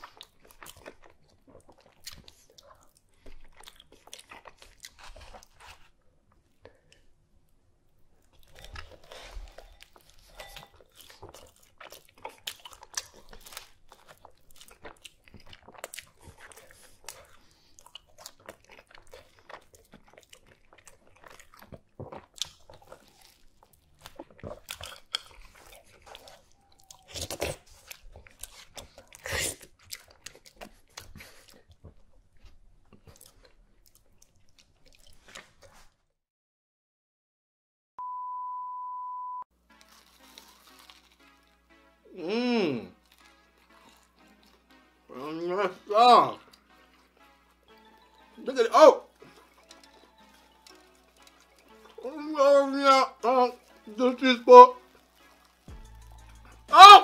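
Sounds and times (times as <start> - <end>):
wet chewing: 0.0 - 7.1, 8.2 - 36.0, 39.7 - 41.9, 42.8 - 57.0.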